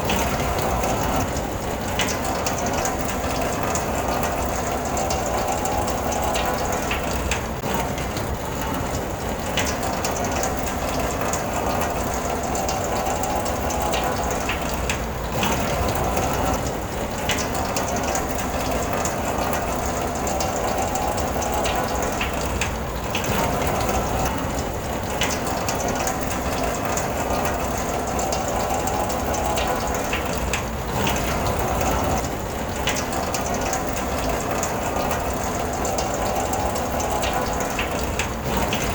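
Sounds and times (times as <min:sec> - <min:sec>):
rain on a car: 0:00.0 - 0:38.9.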